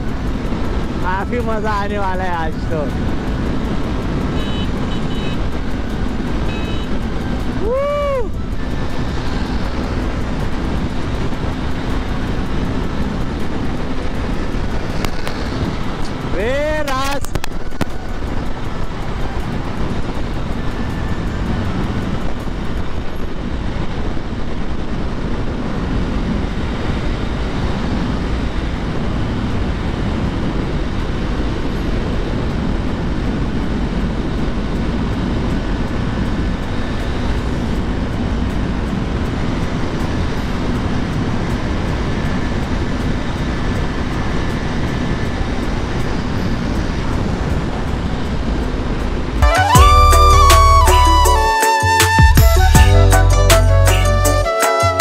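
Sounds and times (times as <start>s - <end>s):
motorcycle engine cruising: 0.0s - 51.5s
wind on microphone: 0.0s - 51.5s.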